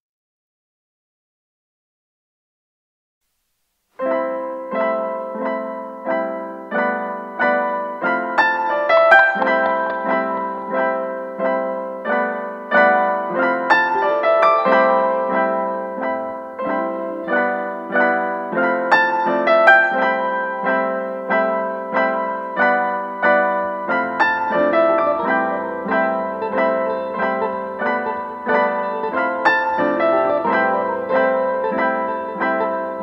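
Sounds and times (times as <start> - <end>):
piano melody: 4.0 - 33.0.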